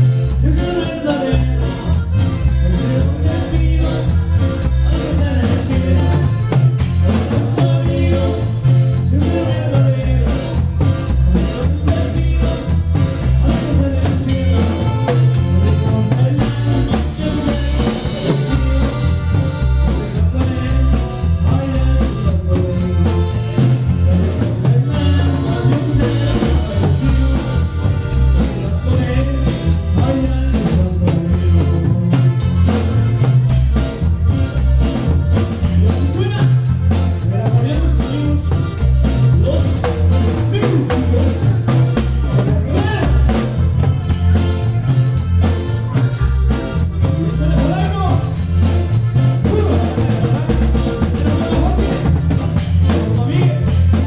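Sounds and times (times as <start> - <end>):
amplified band dance music: 0.0 - 54.0
person singing: 0.0 - 54.0.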